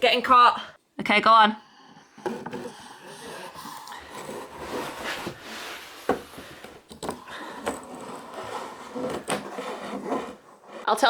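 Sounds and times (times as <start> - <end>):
pipe scraping against wooden joists: 2.1 - 11.0.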